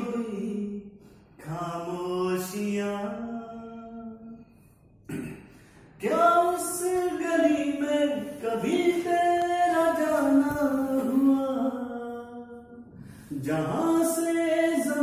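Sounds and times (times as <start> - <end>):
man singing unaccompanied: 0.0 - 4.4, 6.0 - 15.0.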